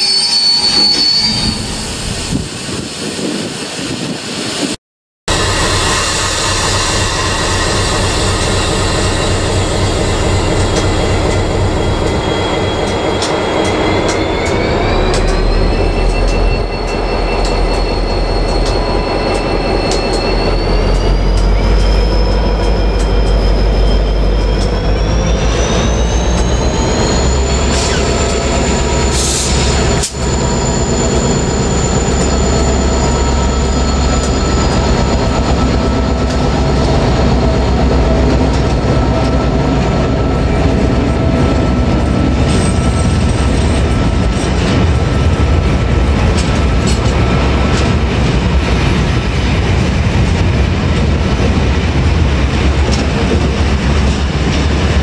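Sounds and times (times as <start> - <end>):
diesel locomotive engine drone: 0.0 - 55.0
rising locomotive whine: 0.0 - 55.0.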